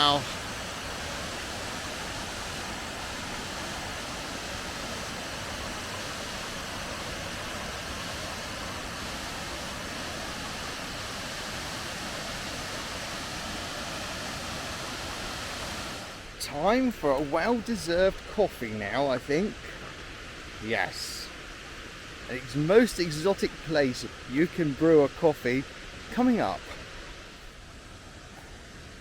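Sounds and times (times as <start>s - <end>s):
waterfall crashing down: 0.0s - 29.0s.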